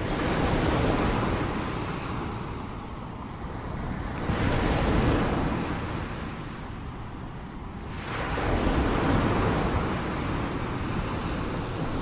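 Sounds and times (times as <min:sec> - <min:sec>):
ocean waves washing ashore: 0:00.0 - 0:12.0.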